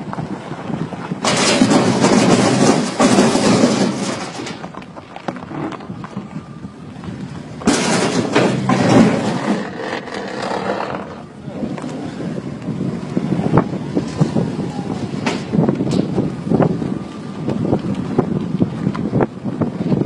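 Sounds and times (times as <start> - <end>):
tyre noise on dirt road: 0.0 - 20.0
wind buffeting microphone: 0.0 - 20.0.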